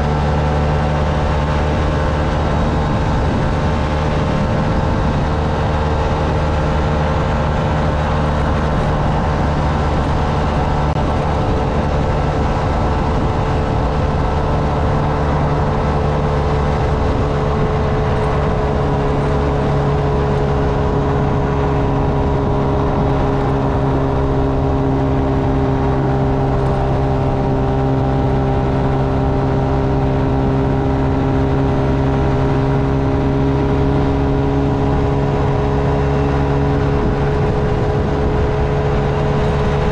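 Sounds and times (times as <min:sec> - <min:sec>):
small motorcycle engine running: 0:00.0 - 0:39.9
wind and road noise: 0:00.0 - 0:39.9.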